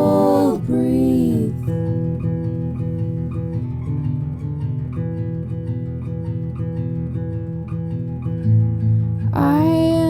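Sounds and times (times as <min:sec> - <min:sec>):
acoustic guitar plucking: 0:00.0 - 0:10.0.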